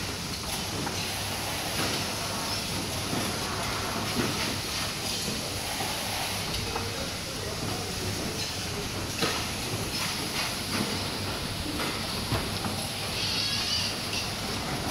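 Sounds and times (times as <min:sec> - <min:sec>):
packaging machine hum and hiss: 0:00.0 - 0:14.9.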